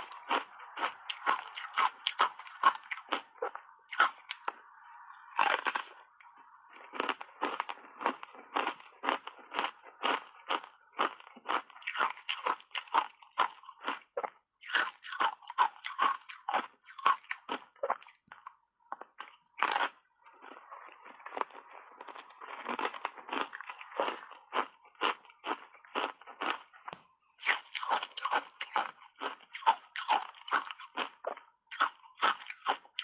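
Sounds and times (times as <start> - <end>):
ice being chewed and crunched: 0.0 - 33.0.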